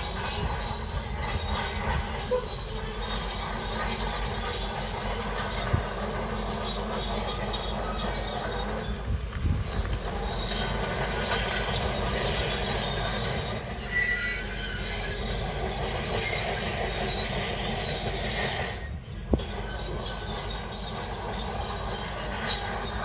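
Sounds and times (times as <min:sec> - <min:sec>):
steel tracks squealing and clanking: 0:00.0 - 0:23.0.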